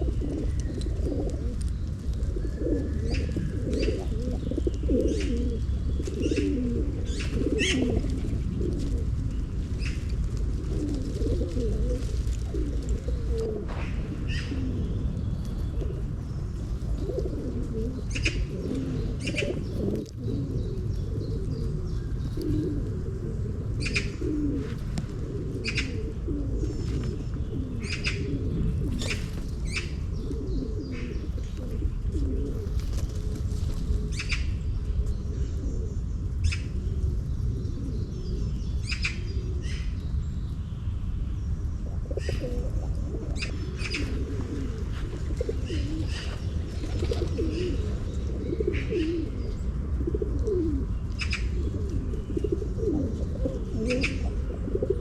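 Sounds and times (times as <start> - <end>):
pigeons cooing: 0.0 - 40.6, 41.6 - 55.0
small birds chirping: 0.0 - 55.0
steady low rumble: 0.0 - 55.0.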